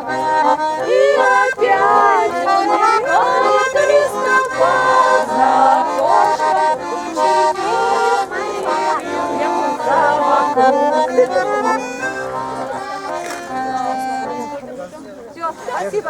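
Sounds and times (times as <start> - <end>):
accordion playing a tune: 0.0 - 16.0.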